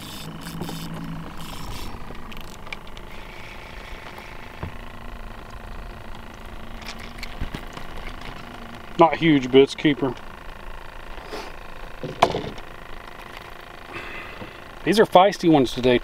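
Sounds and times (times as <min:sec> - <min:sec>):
boat engine hum: 0:00.0 - 0:16.0.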